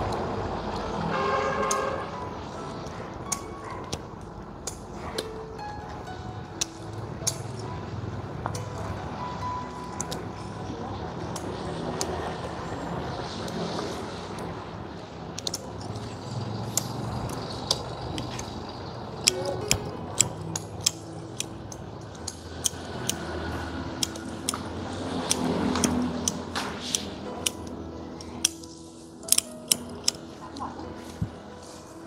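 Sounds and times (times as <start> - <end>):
pruning shears snipping: 2.6 - 7.7, 8.4 - 14.6, 15.3 - 31.8.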